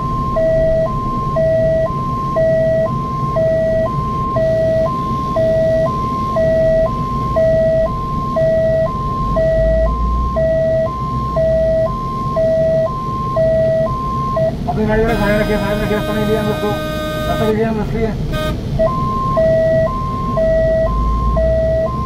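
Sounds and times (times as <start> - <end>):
two-tone siren: 0.0 - 17.6, 18.3 - 22.0
vehicle engine and road rumble: 0.0 - 22.0.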